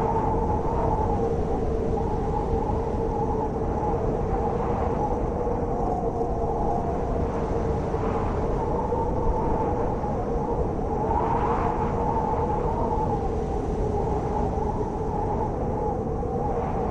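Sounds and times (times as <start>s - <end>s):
blizzard wind howling: 0.0s - 16.9s.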